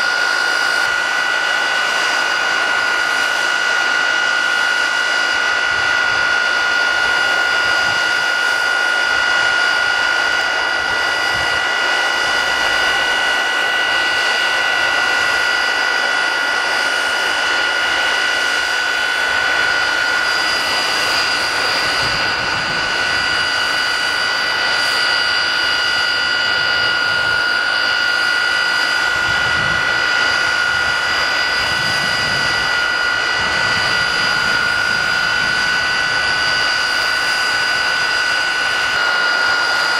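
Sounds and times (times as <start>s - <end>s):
high-pitched whine: 0.0s - 39.9s
jet engine roaring: 0.0s - 39.9s.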